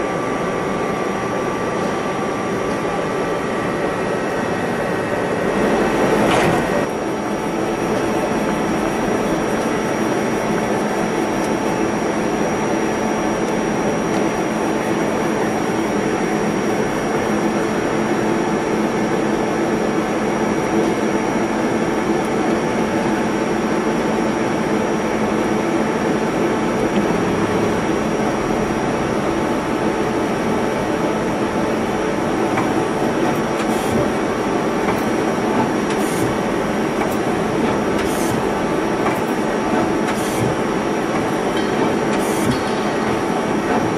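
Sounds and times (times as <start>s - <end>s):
lathe machine drone: 0.0s - 43.9s.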